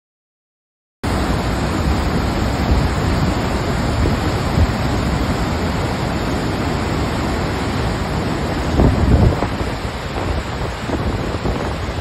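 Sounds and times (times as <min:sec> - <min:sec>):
waterfall rushing: 0:01.1 - 0:12.0
wind gusts on microphone: 0:01.1 - 0:12.0.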